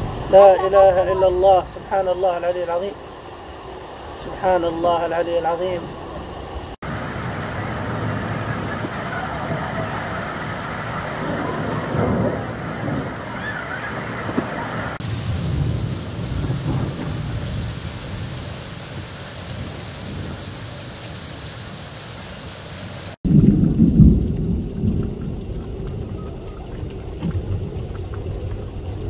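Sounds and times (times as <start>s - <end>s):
thunder rumbling: 0.0s - 21.7s, 23.2s - 29.0s
heavy rain on water: 0.0s - 29.0s.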